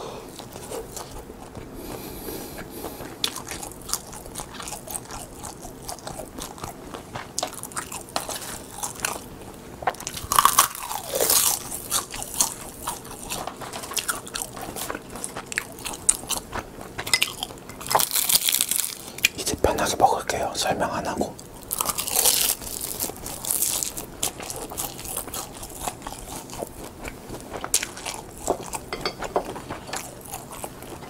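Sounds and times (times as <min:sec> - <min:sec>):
crunching and chewing crisp seaweed: 0:00.3 - 0:19.9, 0:21.3 - 0:31.0.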